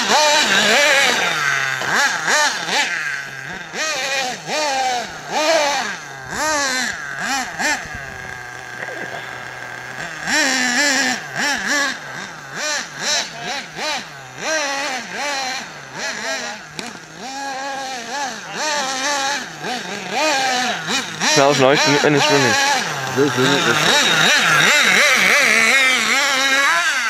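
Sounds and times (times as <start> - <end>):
small rc engine revving: 0.0 - 27.0.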